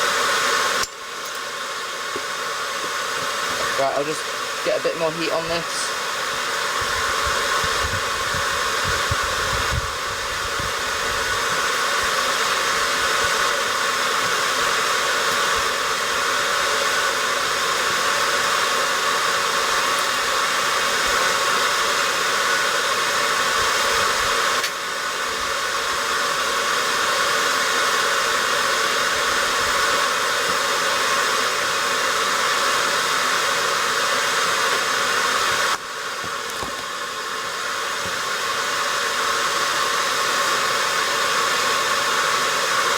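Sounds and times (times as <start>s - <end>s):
forge blower and fire rushing: 0.0s - 42.9s.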